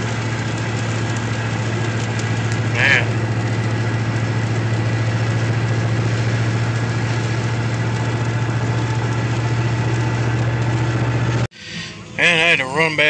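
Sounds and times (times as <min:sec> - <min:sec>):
car engine drone: 0:00.0 - 0:13.0
tyres on wet road: 0:00.0 - 0:13.0.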